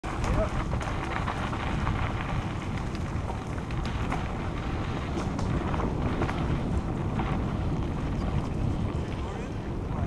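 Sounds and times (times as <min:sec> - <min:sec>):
bike clicks and rattles: 0:00.0 - 0:10.0
bike rolling on dirt trail: 0:00.0 - 0:10.0
wind on microphone: 0:00.0 - 0:10.0.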